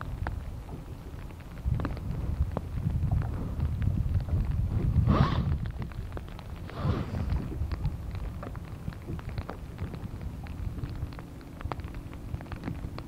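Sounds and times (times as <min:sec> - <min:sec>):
raindrops ticking on plastic cover: 0:00.0 - 0:13.0
wind buffeting microphone: 0:00.0 - 0:13.0.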